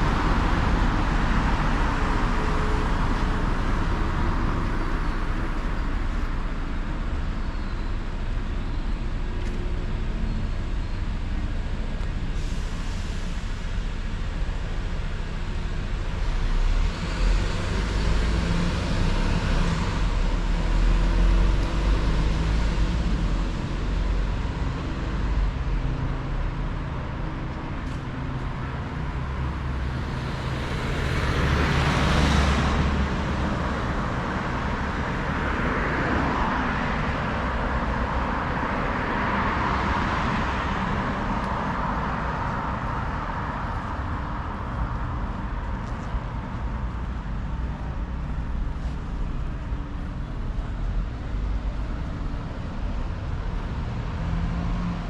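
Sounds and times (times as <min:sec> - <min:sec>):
cars driving past: 0:00.0 - 0:08.3, 0:11.1 - 0:55.0.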